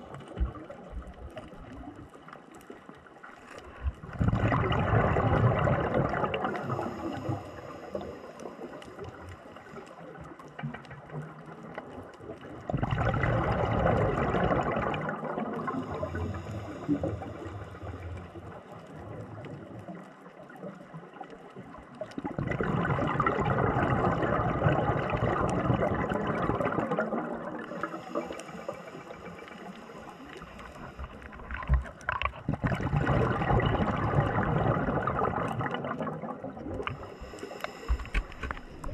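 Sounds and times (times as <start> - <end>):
bubbling exhaled air underwater: 0.0 - 2.2, 3.6 - 38.9.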